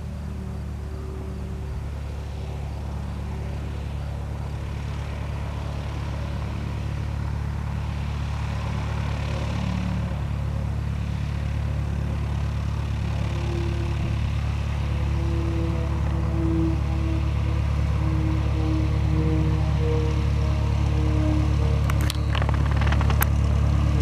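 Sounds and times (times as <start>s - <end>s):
propeller plane engine running: 0.0s - 24.0s.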